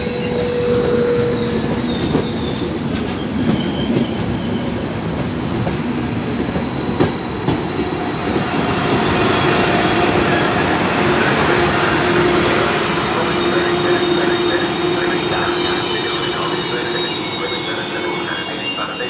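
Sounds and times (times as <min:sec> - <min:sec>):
train wheels clicking and squealing: 0:00.0 - 0:12.0, 0:13.2 - 0:19.0
electric locomotive hum: 0:00.0 - 0:19.0.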